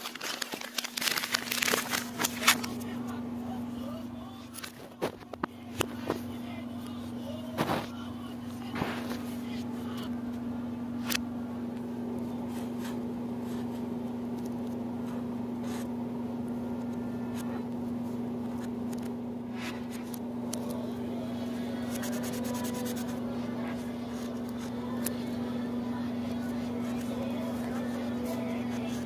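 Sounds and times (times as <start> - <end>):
low hum: 0.2 - 29.0.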